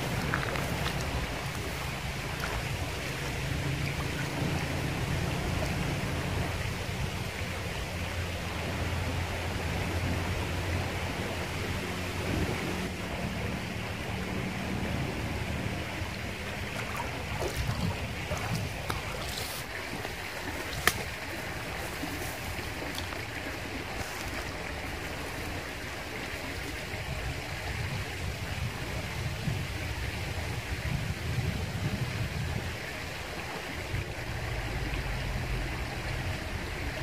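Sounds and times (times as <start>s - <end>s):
river flowing over rocks: 0.0s - 37.0s.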